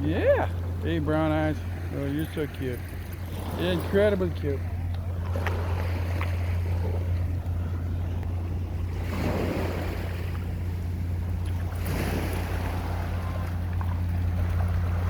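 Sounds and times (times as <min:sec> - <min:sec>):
ocean waves washing onto beach: 0:00.0 - 0:15.0
steady low rumble: 0:00.0 - 0:15.0.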